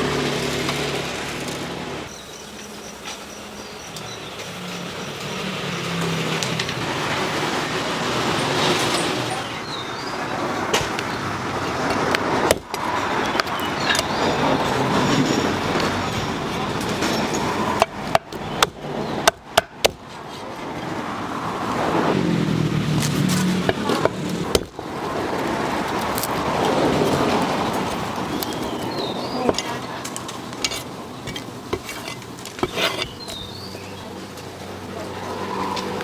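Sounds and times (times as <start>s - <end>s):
vehicles passing: 0.0s - 36.0s.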